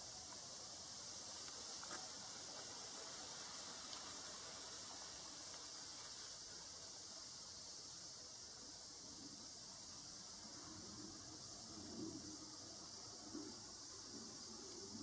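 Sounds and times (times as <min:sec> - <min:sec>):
high-pitched buzzing hiss: 0:00.0 - 0:15.0.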